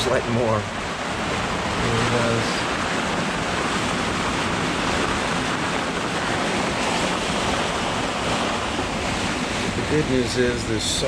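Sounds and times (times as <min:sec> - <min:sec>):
heavy rain pouring: 0:00.0 - 0:11.0
strong wind: 0:00.0 - 0:11.0.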